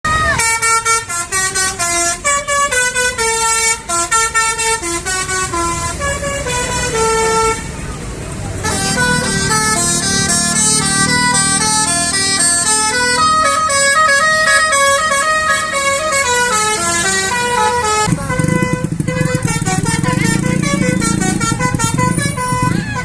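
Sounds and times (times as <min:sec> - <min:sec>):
musical bus horn tune: 0:00.0 - 0:23.0
low engine hum: 0:00.1 - 0:23.0.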